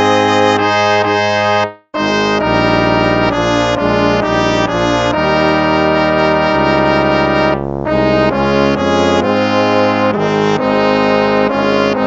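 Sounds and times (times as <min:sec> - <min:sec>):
brass hymn music: 0:00.0 - 0:12.0.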